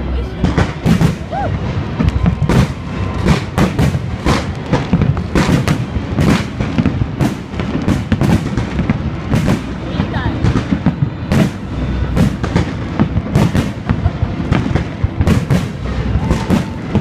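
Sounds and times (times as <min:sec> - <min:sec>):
low rumble of fireworks display: 0:00.0 - 0:17.0.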